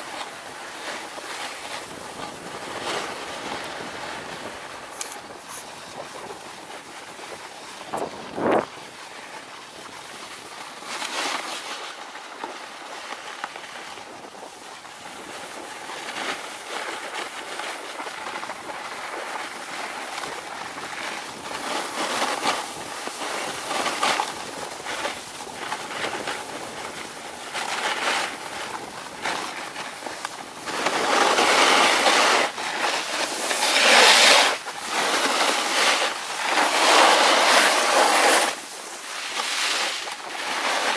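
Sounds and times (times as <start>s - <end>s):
snowboard scraping over snow: 0.0s - 40.9s.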